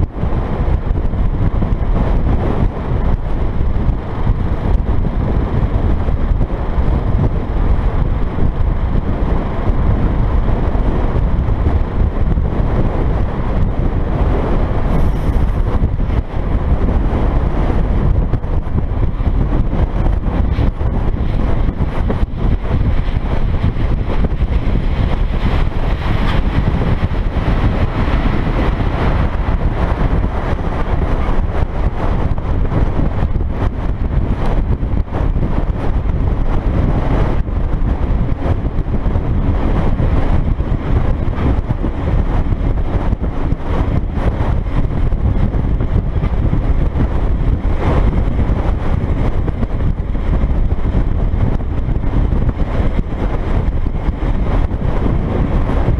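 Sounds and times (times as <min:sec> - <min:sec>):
truck engine and tyre noise: 0:00.0 - 0:55.9
wind buffeting microphone: 0:00.0 - 0:55.9.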